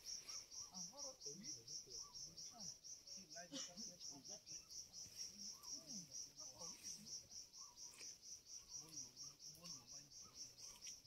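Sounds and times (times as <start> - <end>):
faint distant voices: 0.0 - 11.0
high-pitched insect chirping: 0.0 - 11.0.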